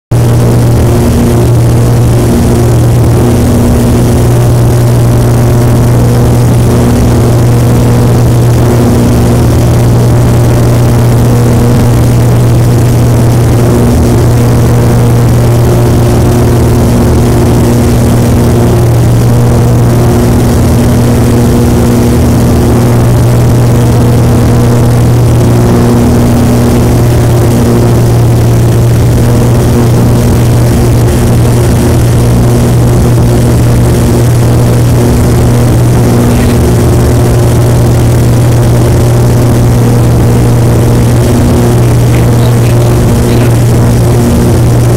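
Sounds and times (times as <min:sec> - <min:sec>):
small plane engine droning: 0:00.1 - 0:44.9.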